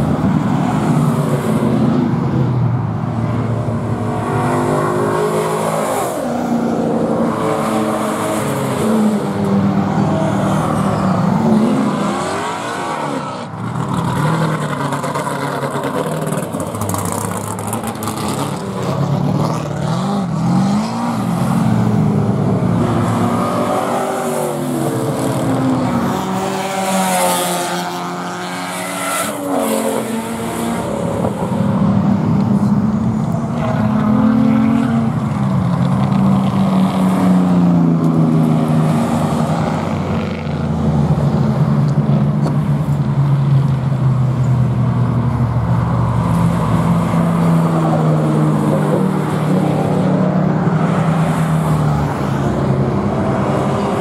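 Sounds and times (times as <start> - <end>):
race cars revving and passing: 0.0 - 54.0.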